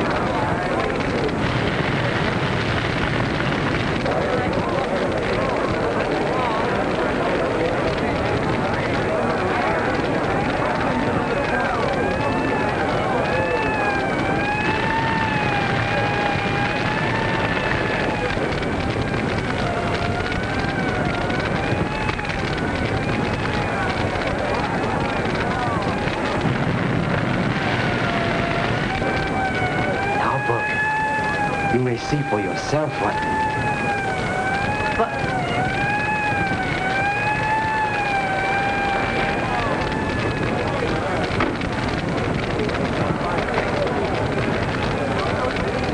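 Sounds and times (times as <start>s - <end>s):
fire engine siren: 0.0s - 45.9s
large fire rushing and crackling: 0.0s - 45.9s.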